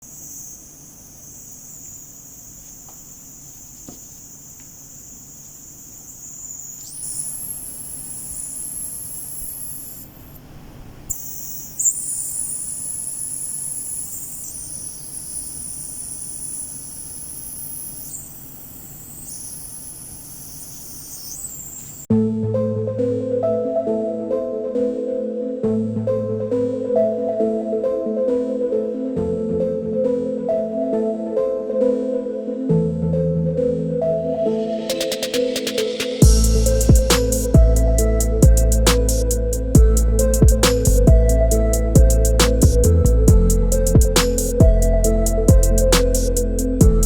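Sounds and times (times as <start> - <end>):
high-pitched electronic whine: 0.0 - 10.4, 11.1 - 32.1, 32.7 - 47.0.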